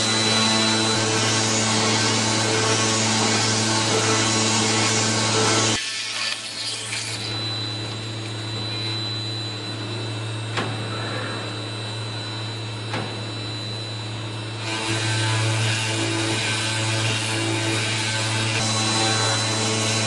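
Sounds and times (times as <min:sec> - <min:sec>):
machine hum and whine: 0:00.0 - 0:20.0.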